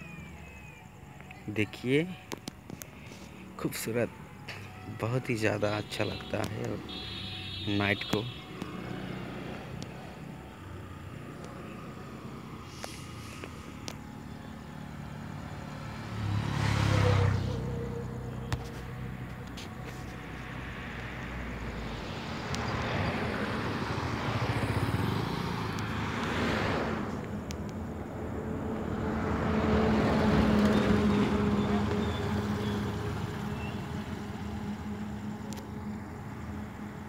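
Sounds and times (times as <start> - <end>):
vehicles passing on a highway: 0.0 - 37.0.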